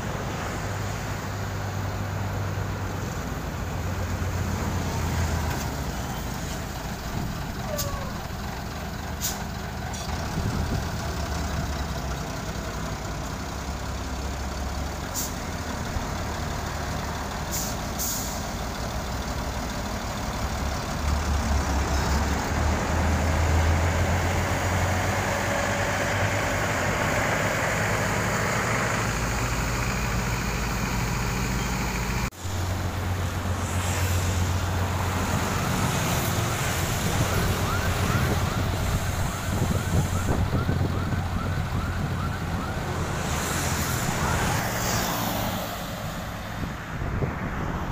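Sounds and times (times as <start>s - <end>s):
road roller diesel engine running: 0.0s - 45.4s.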